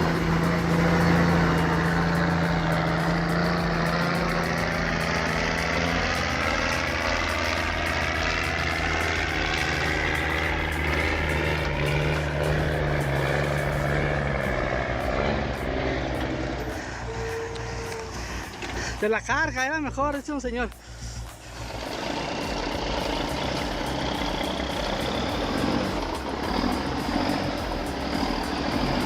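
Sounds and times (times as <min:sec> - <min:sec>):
heavy diesel engine under load: 0:00.0 - 0:29.0
high-pitched whine: 0:00.0 - 0:29.0.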